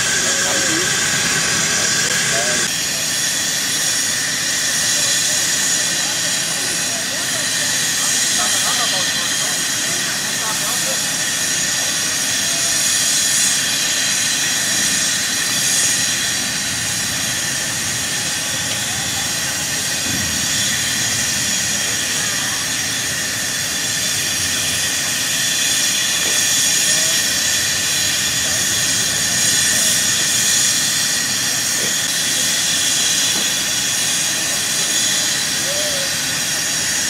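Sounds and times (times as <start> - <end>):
steam hissing: 0.0 - 37.0.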